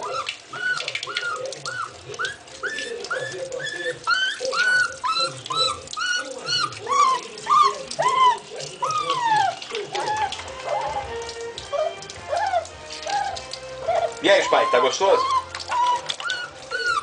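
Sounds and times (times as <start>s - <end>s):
puppy whining: 0.0s - 17.0s.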